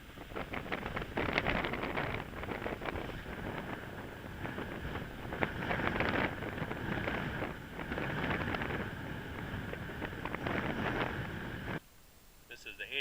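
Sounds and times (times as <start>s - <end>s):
small crackles and ticks: 0.0s - 11.8s
wind buffeting microphone: 0.0s - 11.8s.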